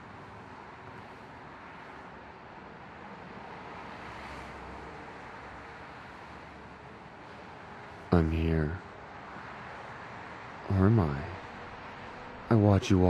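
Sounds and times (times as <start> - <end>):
distant road traffic: 0.0 - 13.0.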